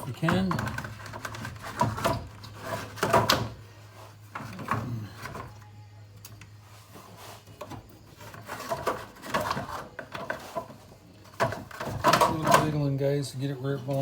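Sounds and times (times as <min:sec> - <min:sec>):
plastic fan scraping against radiator: 0:00.0 - 0:05.5, 0:06.6 - 0:13.0.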